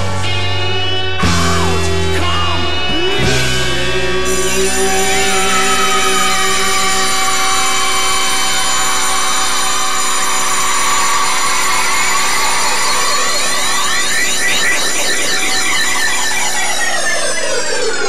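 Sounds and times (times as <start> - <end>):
synthesizer chord sliding down: 0.0 - 18.0.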